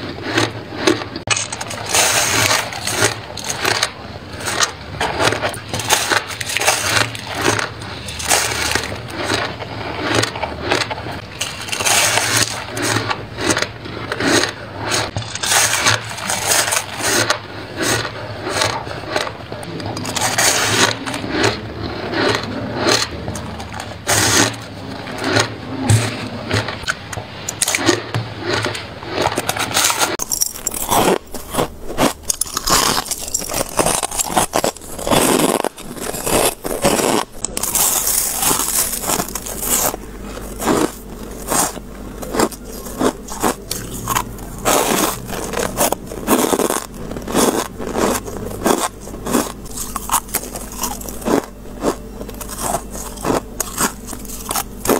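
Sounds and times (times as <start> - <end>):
crunchy chewing of ice: 0.0 - 54.9.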